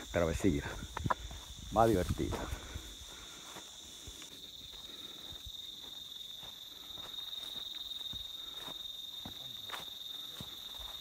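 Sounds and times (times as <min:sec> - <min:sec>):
crickets chirping: 0:00.0 - 0:11.0
footsteps brushing through grass: 0:00.1 - 0:11.0.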